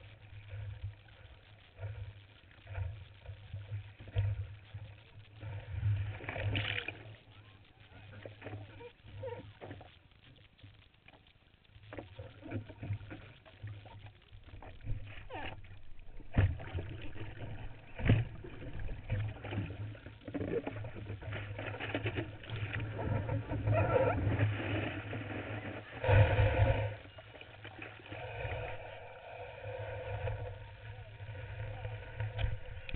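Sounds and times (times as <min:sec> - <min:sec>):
water sloshing against surfboard: 0:00.2 - 0:32.9.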